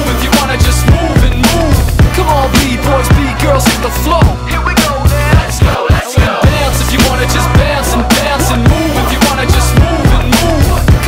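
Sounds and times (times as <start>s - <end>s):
hip hop music with beat: 0.0s - 11.0s.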